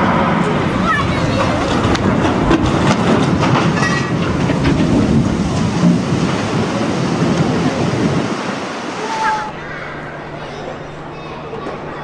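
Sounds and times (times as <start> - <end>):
water rushing and splashing: 0.0 - 11.2
ship hull rumbling: 0.0 - 12.0.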